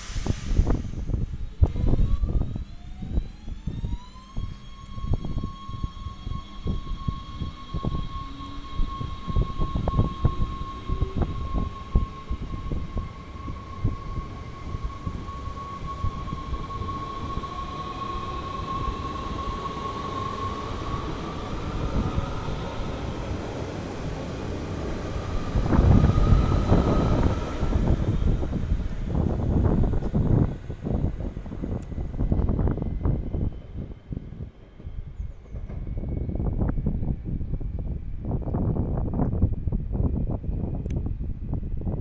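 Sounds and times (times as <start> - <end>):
electric train traction whine: 0.0 - 41.0.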